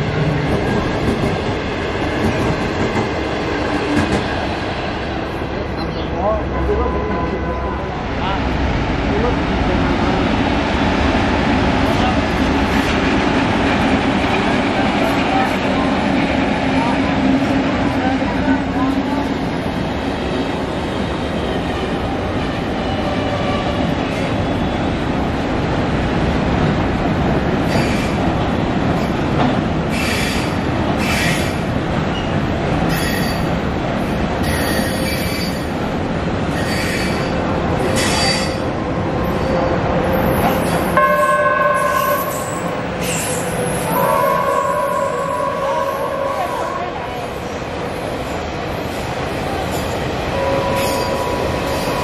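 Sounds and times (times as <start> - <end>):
freight train rumbling on rails: 0.0 - 52.0.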